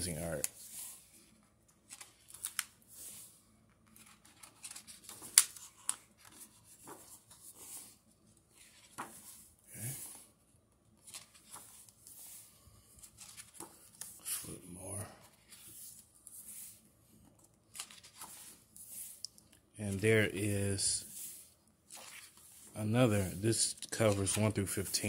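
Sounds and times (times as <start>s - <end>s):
book pages turning: 0.4s - 10.3s, 10.9s - 25.0s.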